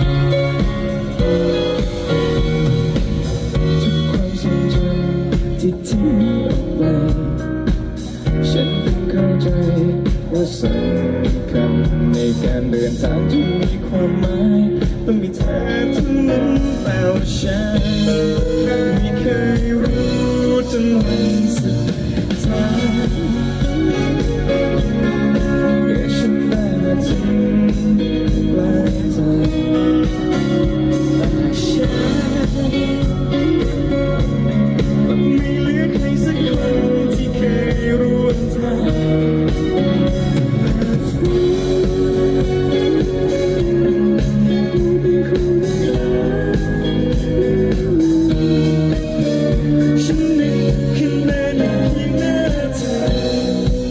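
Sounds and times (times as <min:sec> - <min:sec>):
man singing: 0:00.0 - 0:53.9.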